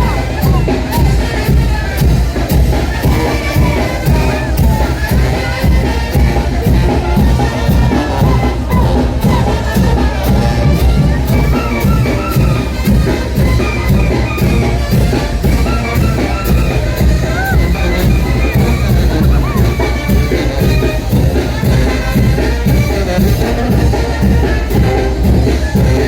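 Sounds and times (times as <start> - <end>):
brass band playing: 0.0 - 26.0
crowd noise: 0.0 - 26.0.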